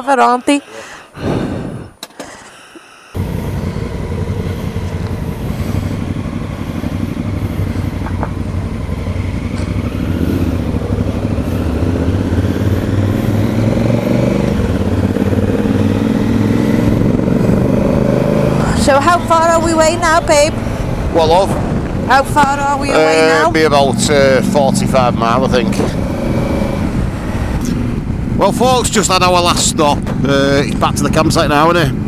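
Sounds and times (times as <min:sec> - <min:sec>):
motorcycle engine accelerating: 0:03.2 - 0:32.0.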